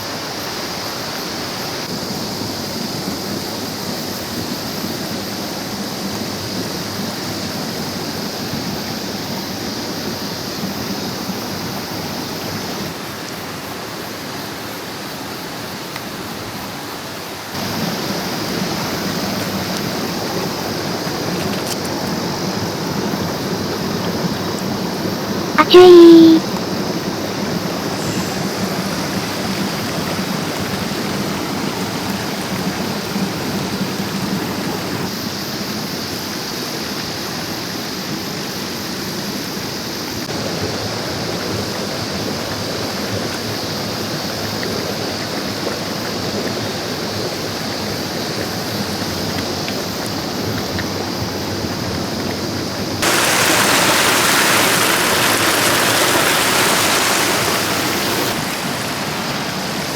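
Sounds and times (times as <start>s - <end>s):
stream rushing over rocks: 0.0s - 24.3s, 27.2s - 37.2s, 39.9s - 59.9s.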